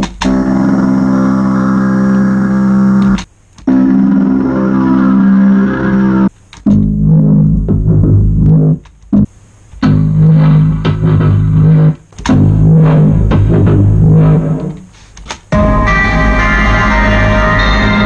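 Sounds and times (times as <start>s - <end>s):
held low synth notes: 0.0s - 14.8s, 15.5s - 18.0s.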